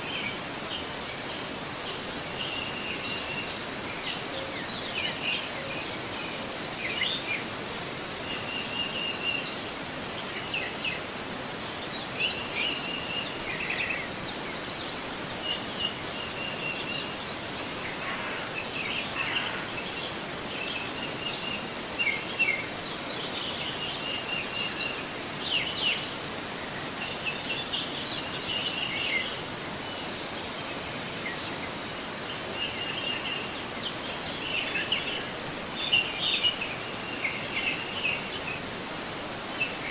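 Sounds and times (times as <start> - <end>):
river water rushing: 0.0 - 39.9
small birds chirping: 0.0 - 39.9.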